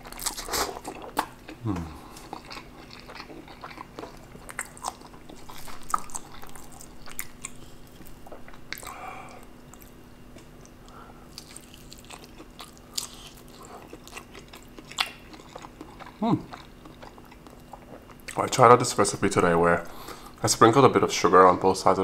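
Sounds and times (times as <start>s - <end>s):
wet chewing and mouth clicks: 0.0s - 18.4s.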